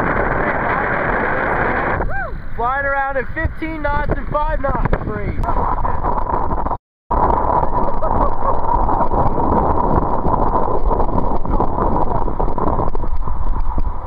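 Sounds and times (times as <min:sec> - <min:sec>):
water rushing along hulls: 0:00.0 - 0:14.0
wind buffeting microphone: 0:00.0 - 0:14.0.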